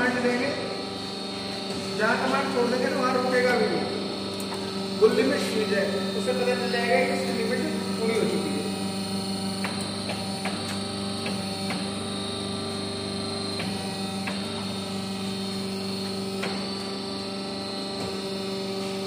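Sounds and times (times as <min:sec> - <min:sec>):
electrical machine hum: 0:00.0 - 0:19.0.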